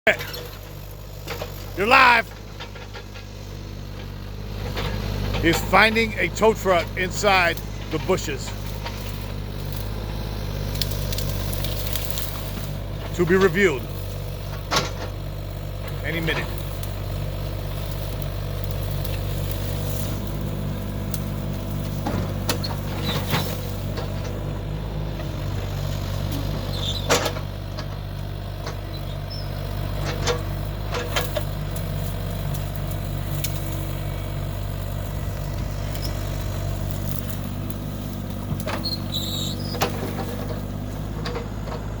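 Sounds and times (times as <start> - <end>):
truck engine idling: 0.1 - 42.0.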